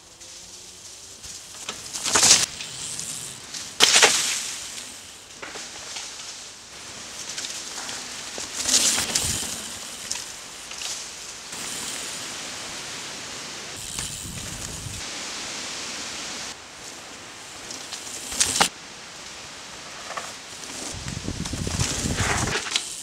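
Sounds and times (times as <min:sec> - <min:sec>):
bike tyres skidding through dirt: 0:00.0 - 0:23.0.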